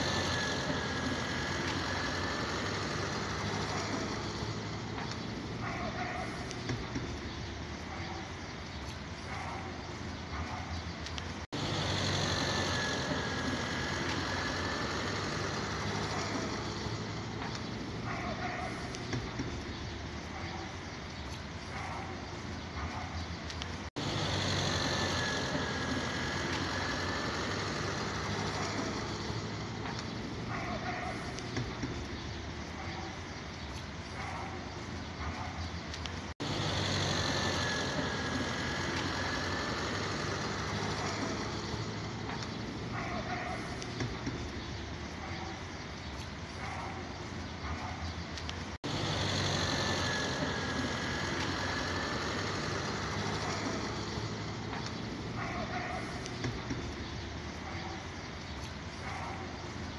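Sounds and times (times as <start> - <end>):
low engine rumble: 0.0 - 59.9
outdoor street noise: 0.0 - 59.9.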